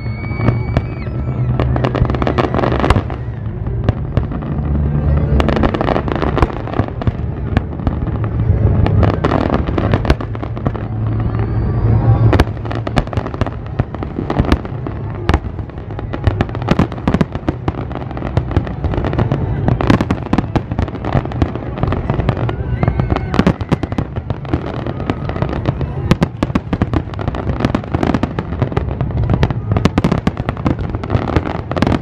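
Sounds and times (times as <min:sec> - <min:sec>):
fireworks bangs: 0:00.0 - 0:32.0
low rumble: 0:00.0 - 0:32.0.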